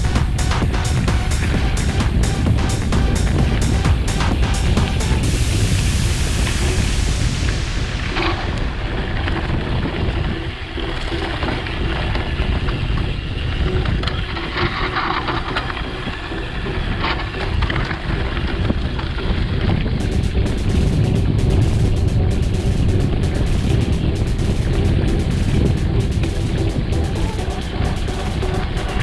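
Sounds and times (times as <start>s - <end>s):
mountain bike rattling on trail: 0.0s - 5.8s, 8.1s - 29.0s
wind buffeting microphone: 0.0s - 29.0s.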